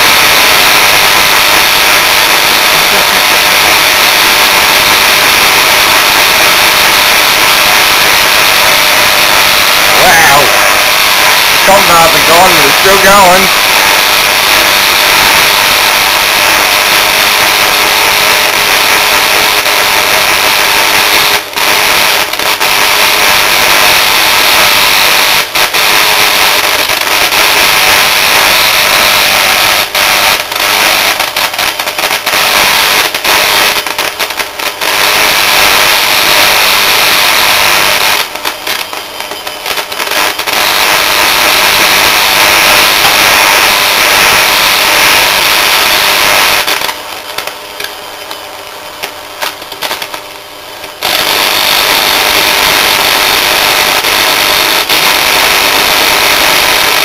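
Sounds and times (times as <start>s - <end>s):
electric motor crackling with arcing: 0.0s - 57.0s.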